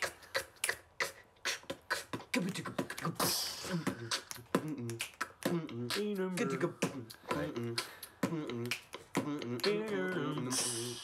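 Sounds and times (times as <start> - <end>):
beatboxing kicks and clicks: 0.0 - 11.0.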